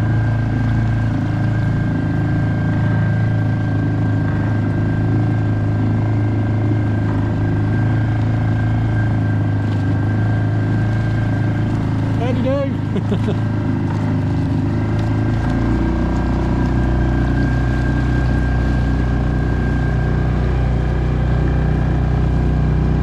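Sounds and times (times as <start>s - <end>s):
boat motor running: 0.0s - 23.0s
high motor whine: 0.0s - 23.0s.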